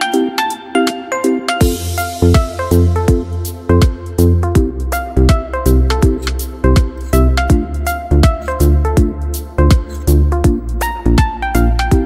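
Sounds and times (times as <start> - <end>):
electronic background music: 0.0 - 12.0
deep bass and drum beat: 1.6 - 12.0.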